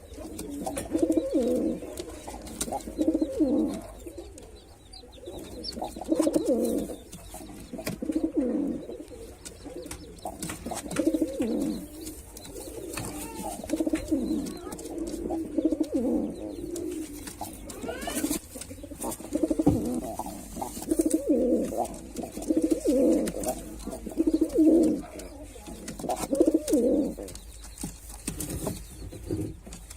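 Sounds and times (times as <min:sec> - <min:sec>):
pigeon cooing: 0:00.0 - 0:27.4.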